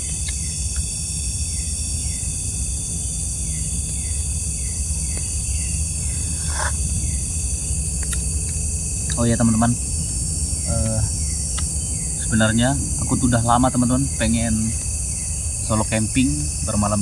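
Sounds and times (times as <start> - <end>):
crickets trilling: 0.0 - 17.0
steady low rumble: 0.0 - 17.0.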